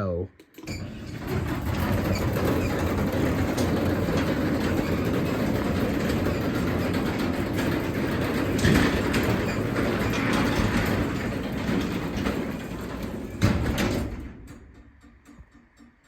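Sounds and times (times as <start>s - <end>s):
garage door opener running: 0.4s - 16.0s.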